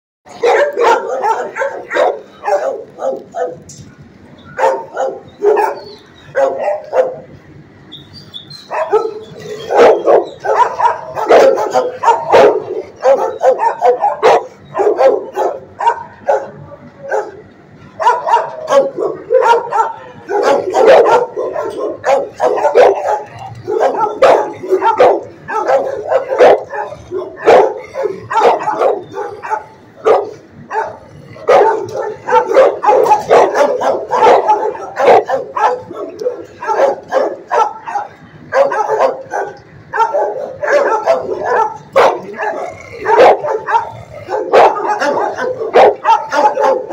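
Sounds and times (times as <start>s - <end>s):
dogs barking: 0.3s - 46.9s.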